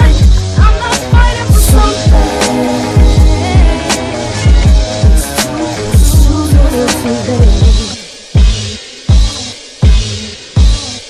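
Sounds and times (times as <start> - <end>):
hip hop music with bass beat: 0.0 - 11.0.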